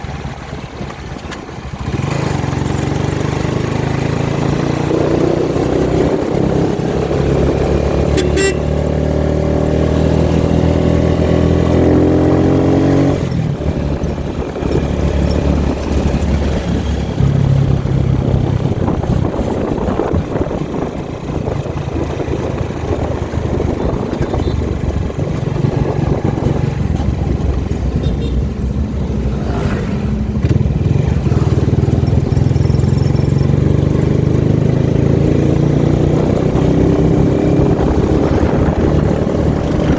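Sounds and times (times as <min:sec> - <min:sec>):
road and wind noise: 0:00.0 - 0:39.9
vehicle engine running: 0:06.1 - 0:39.9.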